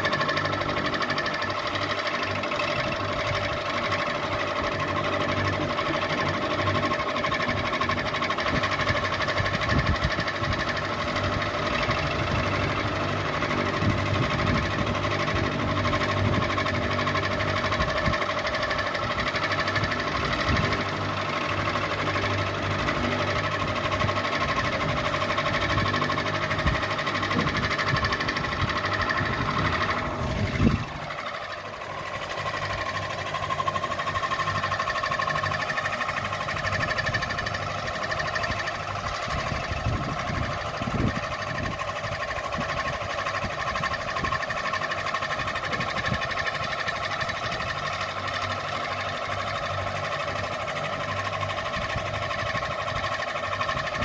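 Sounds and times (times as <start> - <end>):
ceiling fan humming and rattling: 0.0 - 54.0.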